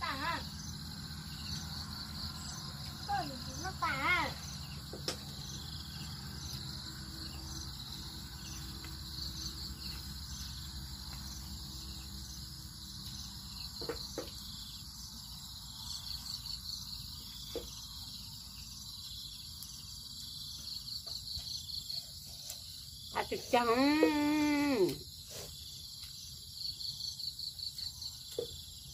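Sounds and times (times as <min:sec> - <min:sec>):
crickets chirping: 0:00.0 - 0:28.9.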